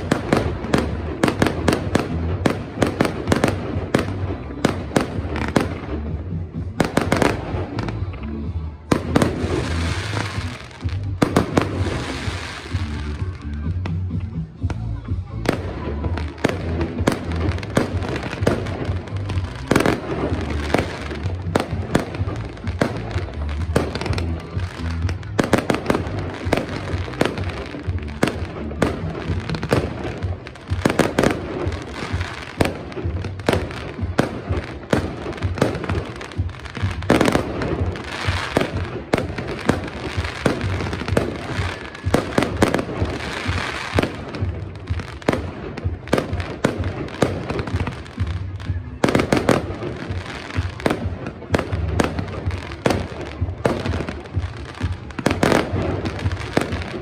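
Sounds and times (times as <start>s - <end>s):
fireworks bursting: 0.0s - 57.0s
music playing: 0.0s - 57.0s.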